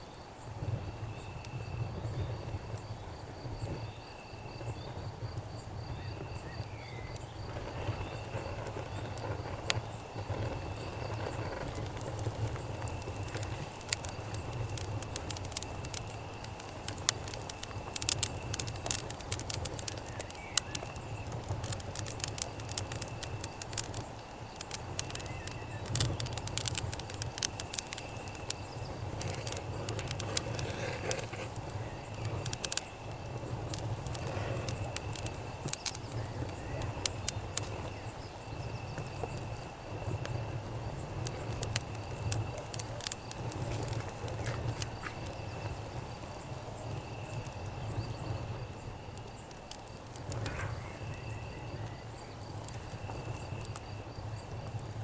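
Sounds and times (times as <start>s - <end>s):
crickets trilling: 0.0s - 55.0s
campfire crackling and popping: 0.6s - 55.0s.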